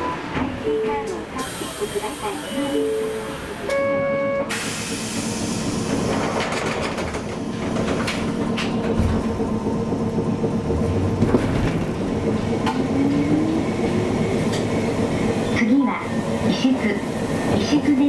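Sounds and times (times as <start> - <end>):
streetcar wheels rumbling: 0.0 - 18.0.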